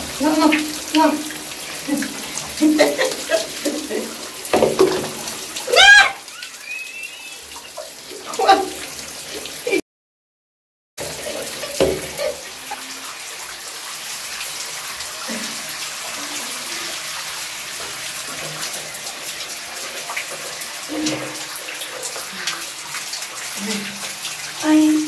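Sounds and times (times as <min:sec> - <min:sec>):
running water splashing: 0:00.0 - 0:09.8, 0:11.0 - 0:25.0.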